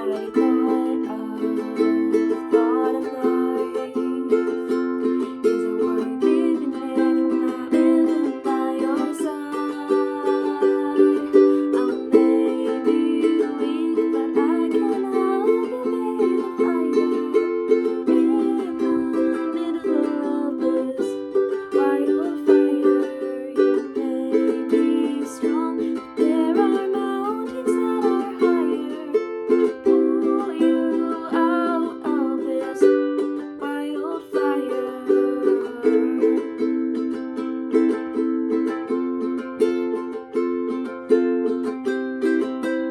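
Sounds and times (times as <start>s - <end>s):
plucked string instrument chords: 0.0s - 42.9s
plucked string melody: 0.0s - 42.9s.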